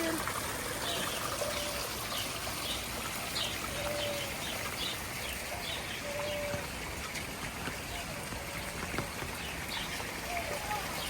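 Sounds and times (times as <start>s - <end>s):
rain hiss: 0.0s - 11.0s
small birds chirping: 0.8s - 6.7s, 7.7s - 11.0s.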